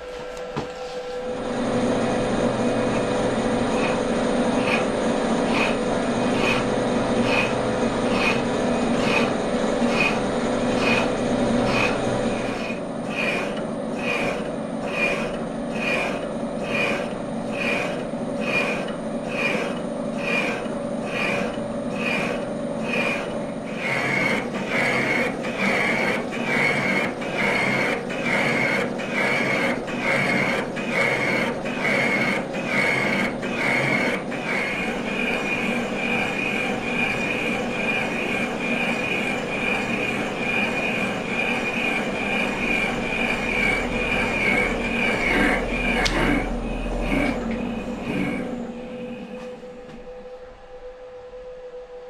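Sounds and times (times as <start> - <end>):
milling cutter squealing: 2.6 - 49.9.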